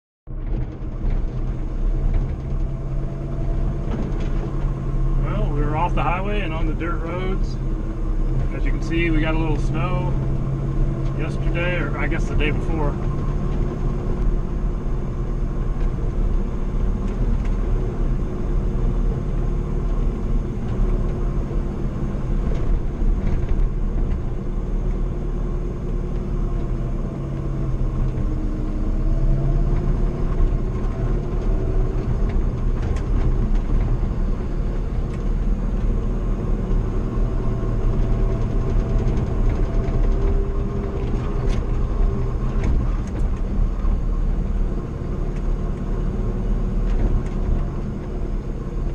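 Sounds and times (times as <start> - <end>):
light rattles and knocks: 0.3 - 7.4, 8.2 - 48.9
pickup truck engine hum: 0.3 - 48.9
road rumble: 0.3 - 48.9.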